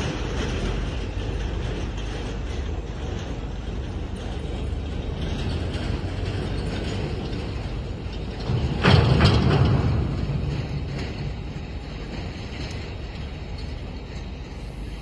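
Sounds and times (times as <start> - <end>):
rattling metal clunks: 0.0 - 14.1
diesel truck engine running: 0.0 - 15.0.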